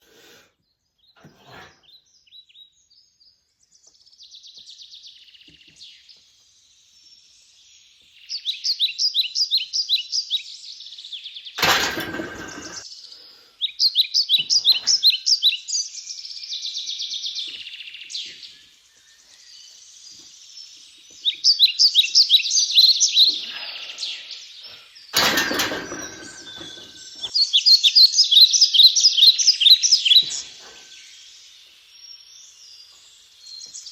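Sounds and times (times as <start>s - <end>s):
bird chirping in rapid trills: 4.1s - 11.6s, 12.4s - 25.2s, 25.8s - 33.9s.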